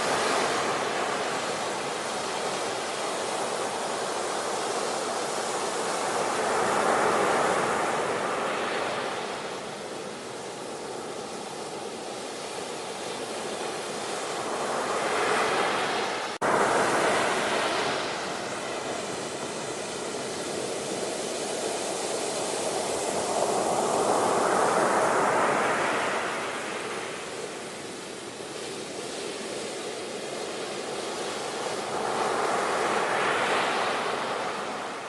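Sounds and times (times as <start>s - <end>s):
ocean waves surging: 0.0s - 35.0s.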